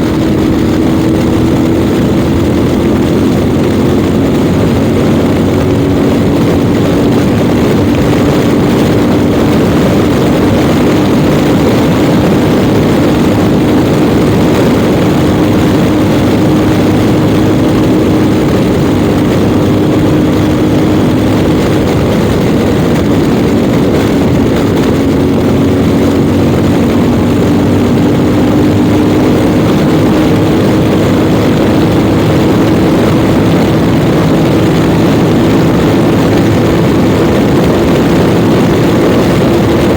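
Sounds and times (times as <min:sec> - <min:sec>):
motorcycle engine cruising: 0:00.0 - 0:39.9
wind rush over microphone: 0:00.0 - 0:39.9.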